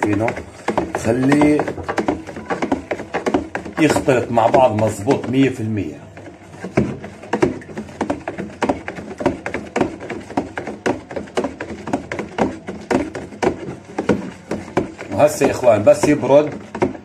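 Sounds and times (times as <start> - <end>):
hand stirring grain in water: 0.0 - 17.0.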